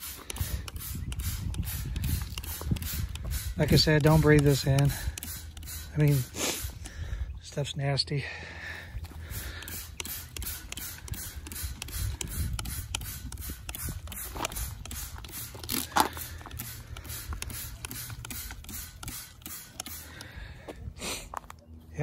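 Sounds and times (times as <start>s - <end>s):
spray bottle spritzing on metal: 0.0s - 6.8s, 9.2s - 20.3s.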